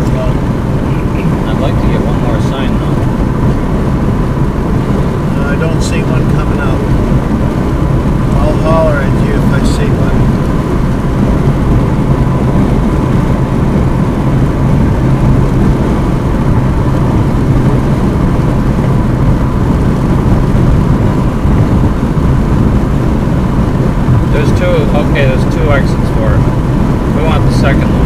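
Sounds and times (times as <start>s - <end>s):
car tyre and engine rumble: 0.0s - 28.0s
steady low hum: 0.0s - 28.0s.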